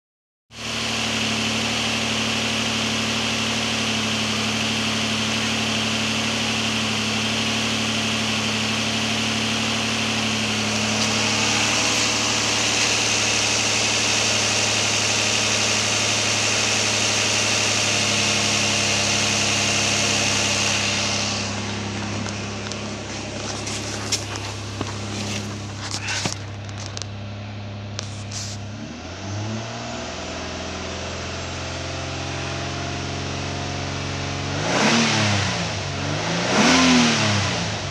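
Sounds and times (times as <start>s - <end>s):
car engine idling: 0.6s - 34.6s.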